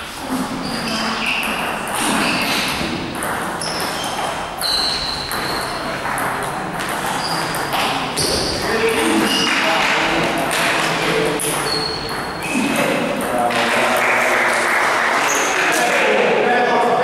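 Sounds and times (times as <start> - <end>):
table tennis ball hits: 0.9 - 16.2.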